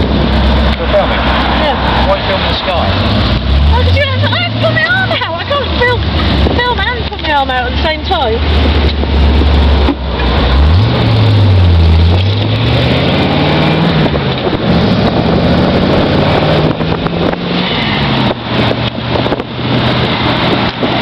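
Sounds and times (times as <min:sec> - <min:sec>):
car engine shifting gears: 0:00.0 - 0:21.0
wind and road noise: 0:00.0 - 0:21.0.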